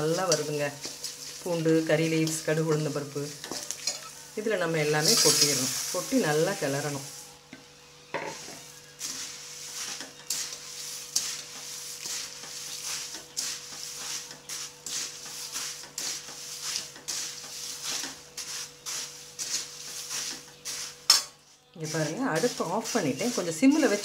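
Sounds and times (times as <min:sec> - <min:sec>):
spoon stirring puffed rice in pan: 0:00.0 - 0:07.2, 0:08.3 - 0:24.0.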